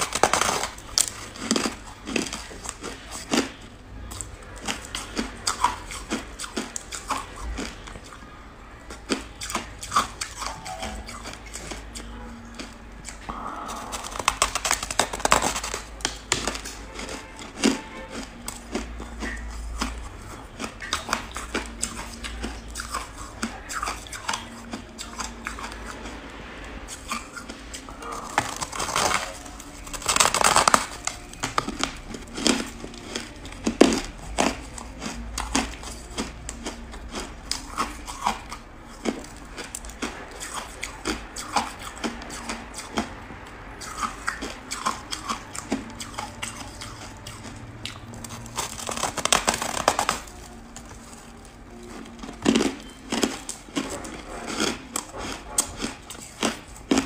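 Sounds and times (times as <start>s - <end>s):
crunching as ice is chewed: 0.0s - 57.0s.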